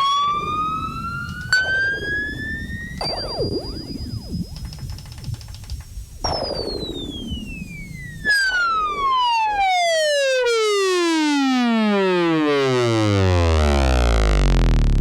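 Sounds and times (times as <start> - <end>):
synthesizer sweeping down in pitch: 0.0 - 4.5, 6.3 - 15.0.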